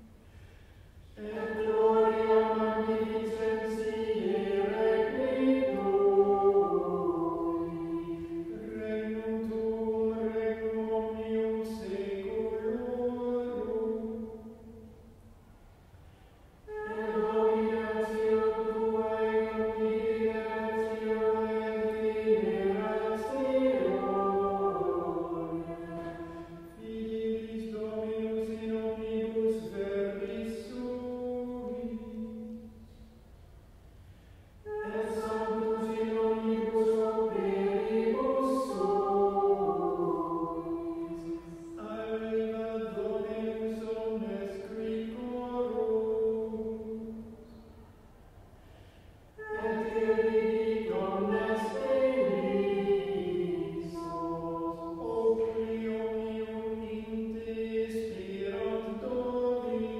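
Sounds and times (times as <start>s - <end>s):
choir singing plainchant: 1.1s - 14.9s, 16.7s - 32.8s, 34.6s - 47.9s, 49.3s - 59.9s.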